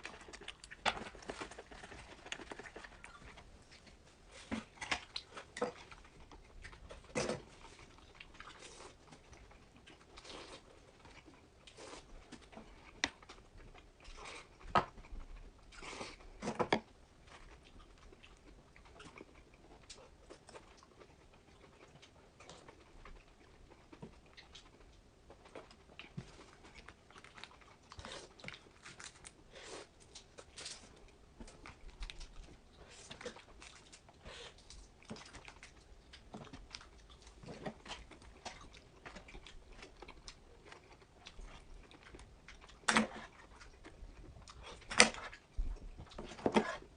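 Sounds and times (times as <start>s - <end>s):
chewing and biting: 0.0s - 46.9s.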